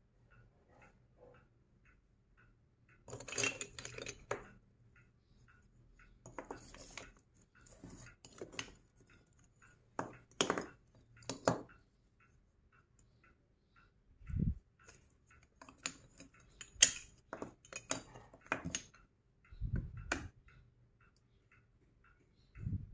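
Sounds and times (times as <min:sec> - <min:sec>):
faint regular ticking: 0:00.0 - 0:22.9.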